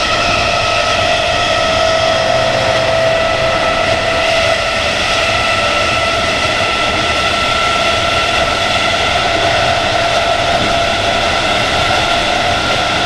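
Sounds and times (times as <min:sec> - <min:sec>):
low rumble of running train: 0:00.0 - 0:13.0
train traction motors whining: 0:00.0 - 0:13.0.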